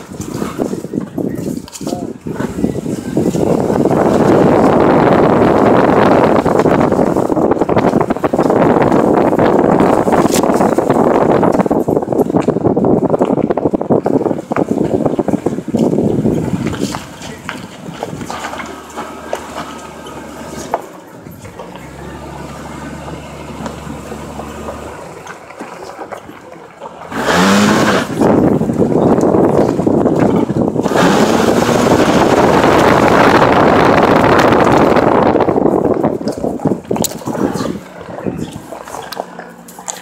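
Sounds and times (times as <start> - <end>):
wind and tyres rushing: 0.0 - 40.0
car engine revving: 2.2 - 12.1, 12.7 - 40.0.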